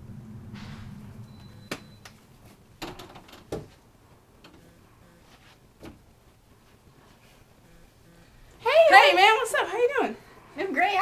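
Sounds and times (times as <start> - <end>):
faint low hum: 0.0 - 9.4.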